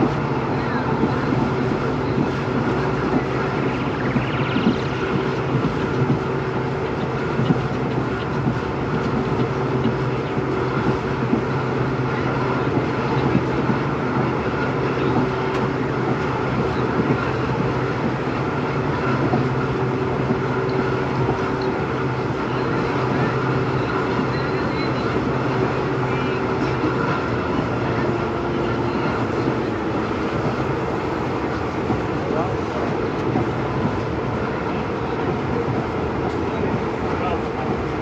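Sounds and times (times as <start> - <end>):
diesel locomotive engine humming: 0.0 - 38.0.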